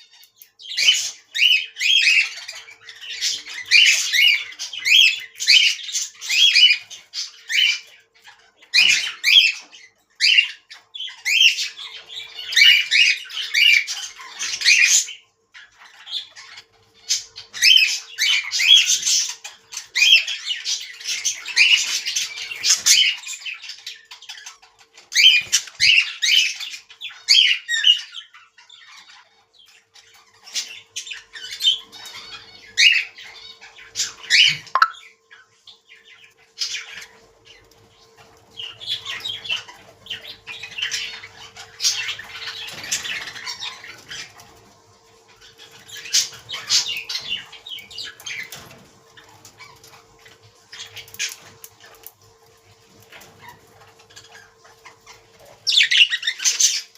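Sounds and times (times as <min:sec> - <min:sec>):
budgerigars chirping and squawking: 0:00.0 - 0:56.9.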